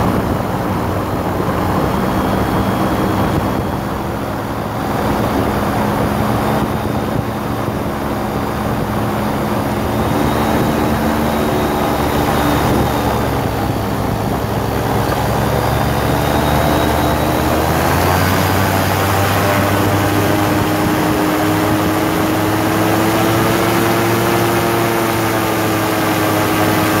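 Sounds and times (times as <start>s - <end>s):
engine and propeller running: 0.0s - 27.0s.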